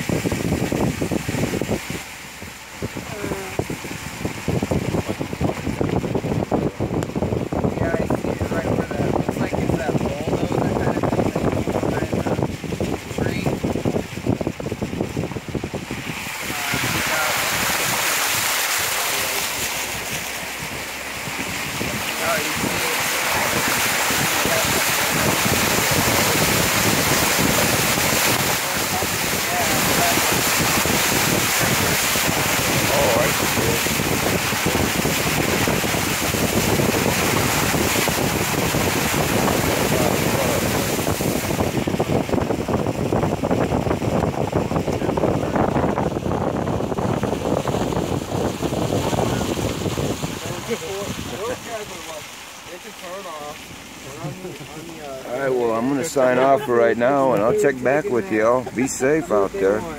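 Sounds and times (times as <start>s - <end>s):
wind noise on microphone: 0.0s - 52.3s
car road noise: 0.0s - 59.9s
vehicle rumble: 0.0s - 59.9s.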